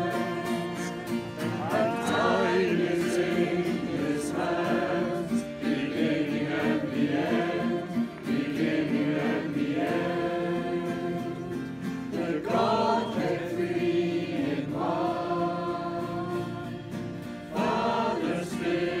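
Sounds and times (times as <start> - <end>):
group of people singing: 0.0 - 19.0.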